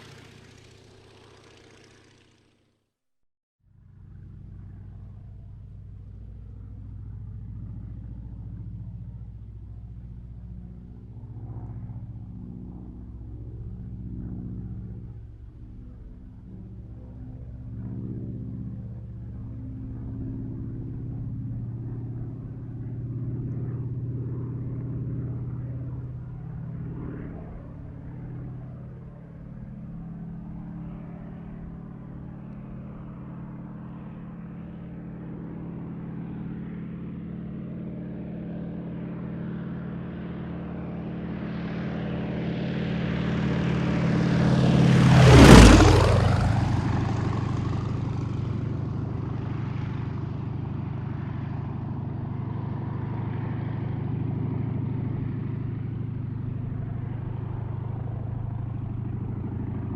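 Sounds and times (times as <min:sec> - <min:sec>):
propeller airplane passing: 0:00.0 - 0:02.8, 0:03.7 - 0:59.9.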